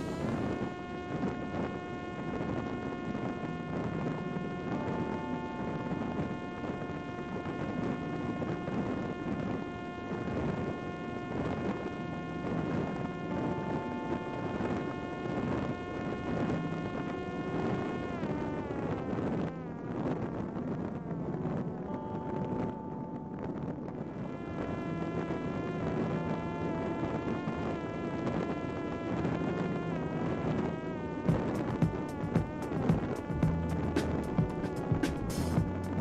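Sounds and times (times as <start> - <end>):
electric motor and propeller whine: 0.0 - 20.8, 24.1 - 36.0.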